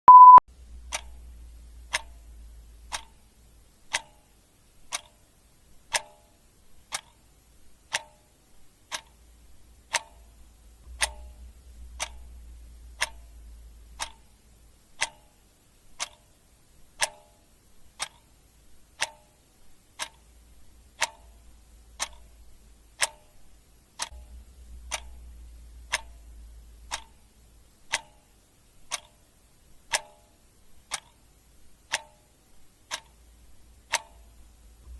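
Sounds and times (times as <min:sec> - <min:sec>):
clock ticking: 0:00.1 - 0:34.9
faint low hum: 0:00.1 - 0:34.9.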